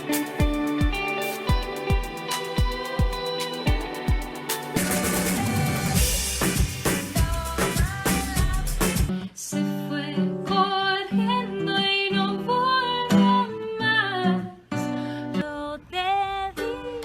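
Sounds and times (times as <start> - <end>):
person singing: 0.0 - 14.6
acoustic guitar: 0.0 - 17.0.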